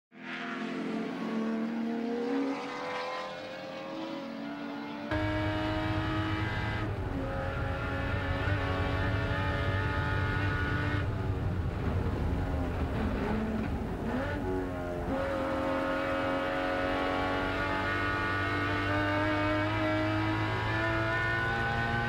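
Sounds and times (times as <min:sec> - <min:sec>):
race car engine at high revs: 0:00.1 - 0:22.0.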